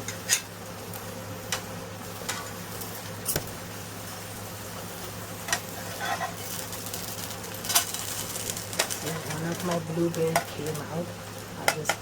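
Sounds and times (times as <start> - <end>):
pancake sizzling in a pan: 0.0 - 11.7.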